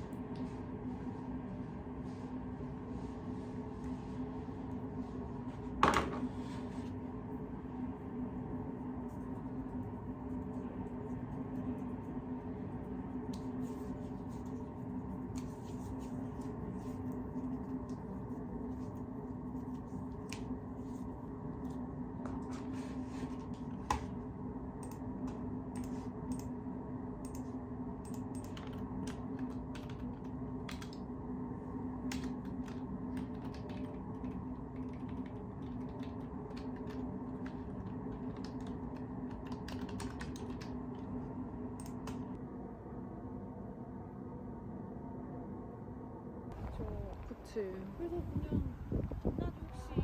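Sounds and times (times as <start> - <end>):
low background hum: 0.0 - 50.0.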